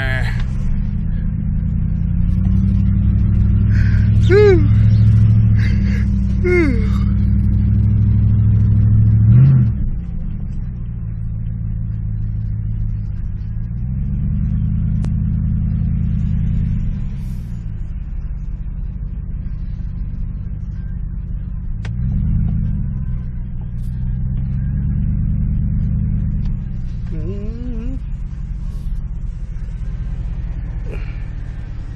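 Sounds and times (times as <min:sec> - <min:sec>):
vehicle engine revving: 0:00.0 - 0:31.9.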